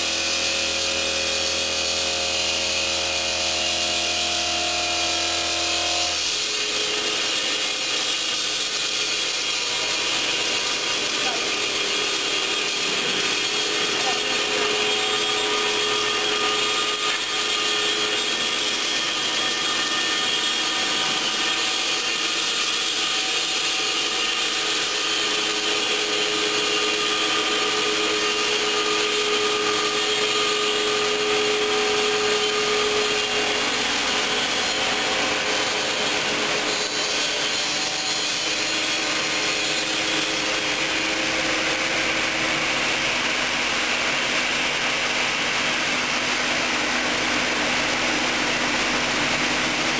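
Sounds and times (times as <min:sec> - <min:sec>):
stone saw grinding hiss: 0:00.0 - 0:49.9
machine humming: 0:00.4 - 0:49.9.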